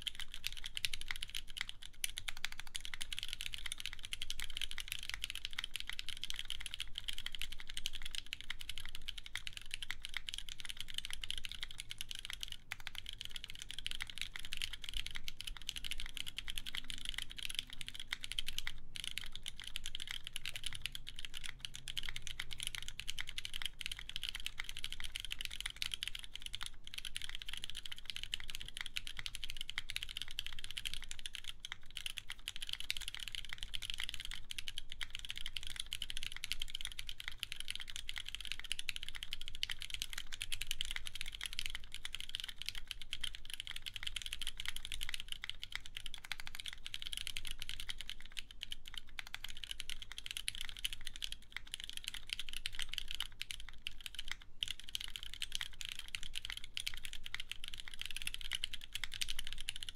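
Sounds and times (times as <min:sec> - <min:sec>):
fast mechanical keyboard typing: 0:00.0 - 0:59.9.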